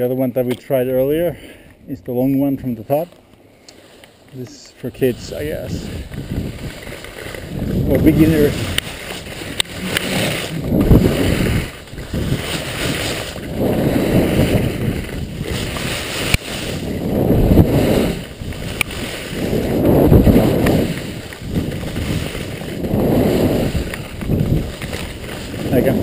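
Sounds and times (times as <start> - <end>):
skis scraping over matting: 2.8 - 26.0
wind buffeting microphone: 4.7 - 26.0.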